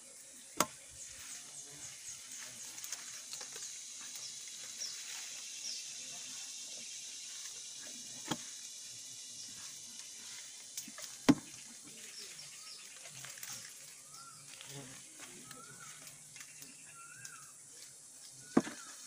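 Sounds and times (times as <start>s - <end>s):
high insect hiss: 0.0s - 19.0s.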